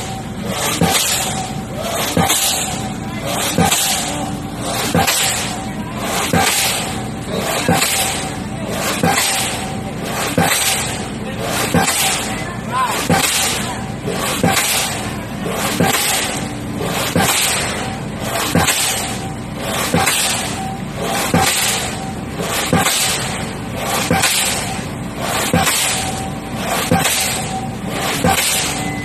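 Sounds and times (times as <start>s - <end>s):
pile hammer blows: 0.0s - 29.0s
steady mechanical hum: 0.0s - 29.0s.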